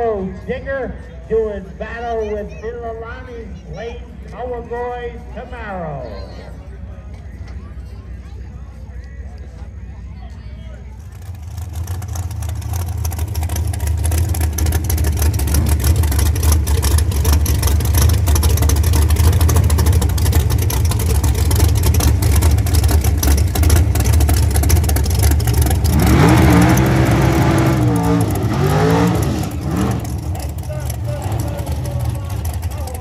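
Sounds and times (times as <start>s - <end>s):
drag race car engines rumbling: 0.0s - 33.0s.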